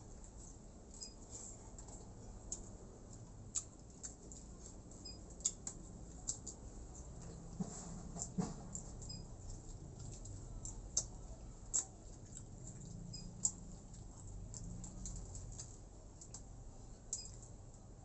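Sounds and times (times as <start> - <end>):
person chewing and smacking: 0.0 - 7.6, 8.2 - 18.0.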